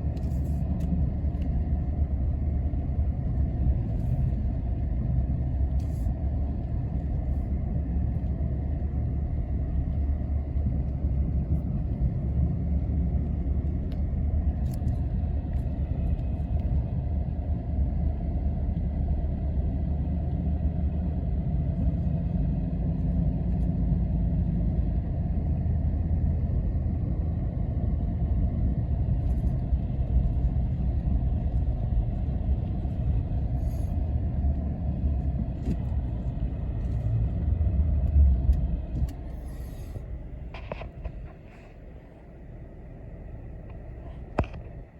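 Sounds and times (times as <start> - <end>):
quad engine rumbling: 0.0 - 44.9.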